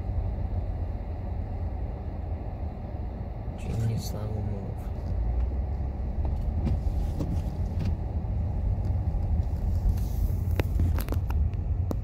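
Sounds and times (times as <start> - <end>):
car rumble from inside cabin: 0.0 - 12.0.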